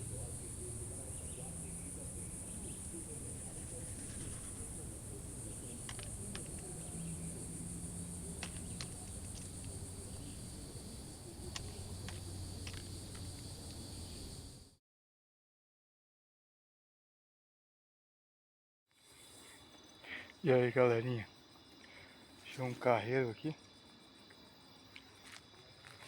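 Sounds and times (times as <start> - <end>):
insects trilling: 0.0 - 14.7, 19.0 - 26.0.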